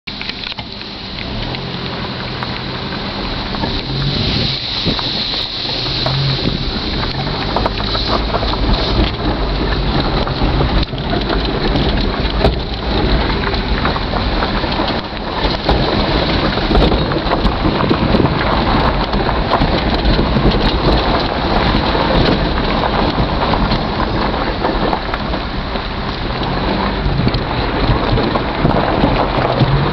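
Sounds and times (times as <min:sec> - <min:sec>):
vehicle engine hum: 0:00.0 - 0:29.9
small clicks and rattles: 0:00.1 - 0:29.9
tyres rolling over gravel: 0:00.1 - 0:29.9.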